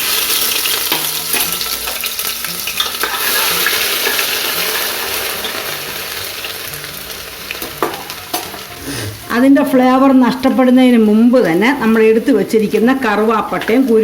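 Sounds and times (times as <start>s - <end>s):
spices sizzling in hot ghee: 0.0s - 14.0s.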